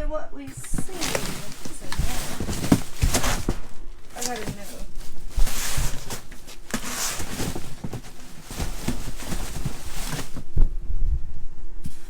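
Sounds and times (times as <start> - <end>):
hissing rustle: 0.4 - 10.6
heavy thumps: 0.4 - 11.2
rustling and knocking of boxes: 0.4 - 11.2, 11.8 - 12.0.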